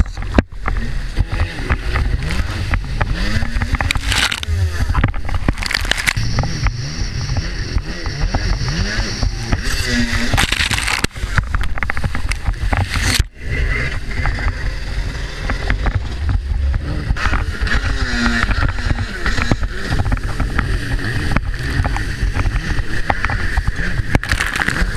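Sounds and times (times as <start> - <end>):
wind noise: 0.0 - 24.9
jet ski engine revving: 0.6 - 24.9.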